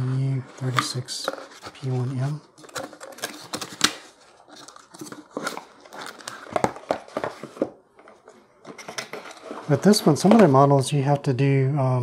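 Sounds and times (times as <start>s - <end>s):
cardboard packaging rustling: 0.0s - 10.7s.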